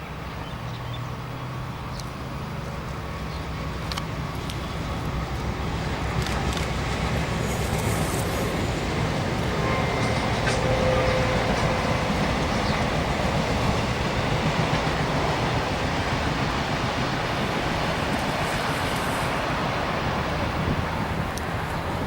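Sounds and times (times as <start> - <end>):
diesel locomotive engine rumble: 0.0 - 22.0
rail noise: 0.0 - 22.0.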